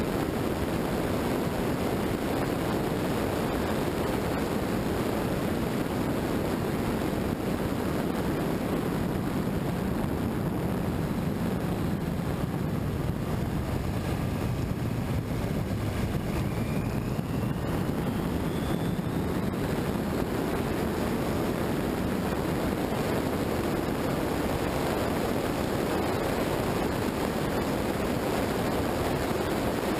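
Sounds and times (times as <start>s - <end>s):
road noise: 0.0s - 29.6s
wind noise: 0.0s - 29.9s.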